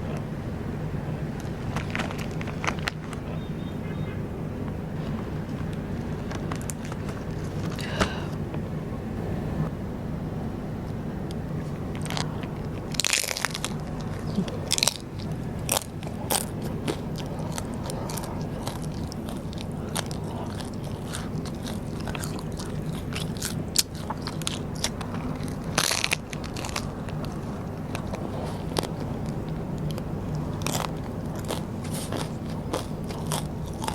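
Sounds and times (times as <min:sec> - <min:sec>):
low hum: 0:00.0 - 0:33.9
chewing crunchy rice paper: 0:01.4 - 0:03.7, 0:05.0 - 0:08.3, 0:11.6 - 0:33.9.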